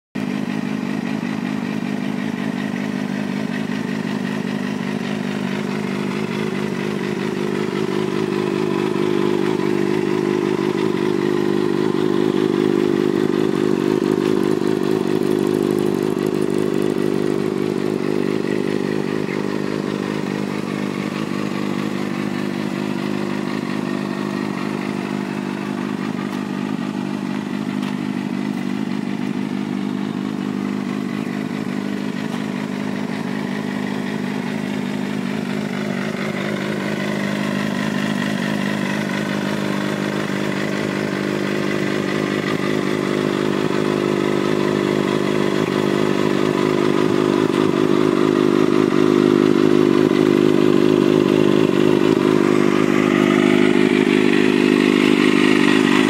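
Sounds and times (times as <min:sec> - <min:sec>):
motorcycle engine idling and revving: 0:00.1 - 0:56.0.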